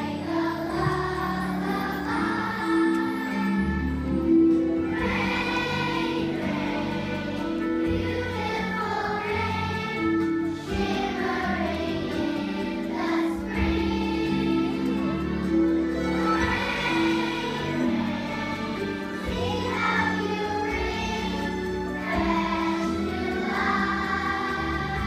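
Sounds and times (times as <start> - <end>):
choir singing: 0.0 - 4.0, 4.8 - 25.0
instrumental accompaniment: 0.0 - 25.0.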